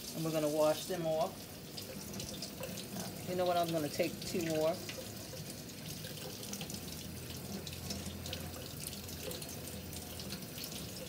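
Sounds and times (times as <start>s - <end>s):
faucet running into steel sink: 0.0s - 11.0s.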